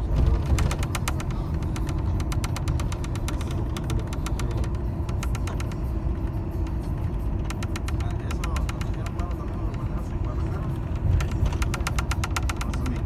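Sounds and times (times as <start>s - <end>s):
engine and road rumble: 0.0s - 13.0s
rapid ticking rattle: 0.0s - 13.0s.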